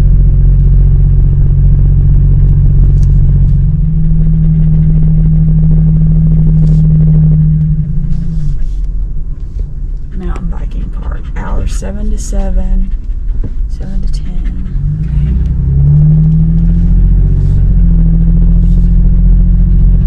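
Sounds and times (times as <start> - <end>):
car engine drone inside cabin: 0.0 - 20.0
road noise: 0.0 - 20.0.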